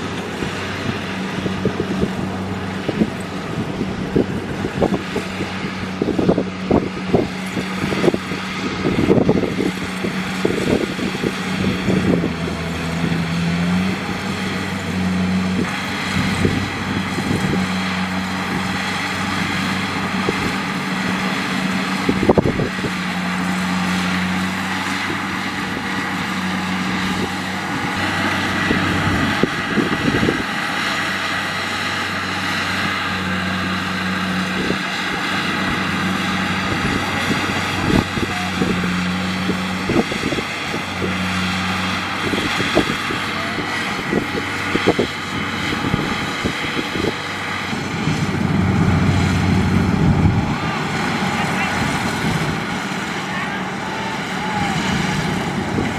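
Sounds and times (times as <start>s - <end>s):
diesel engine humming under load: 0.0s - 55.9s
mechanical rush of threshing gear: 0.0s - 55.9s.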